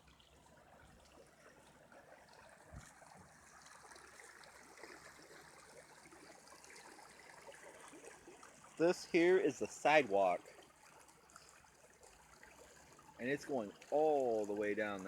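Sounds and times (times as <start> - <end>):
water trickling and rushing: 0.0 - 15.0.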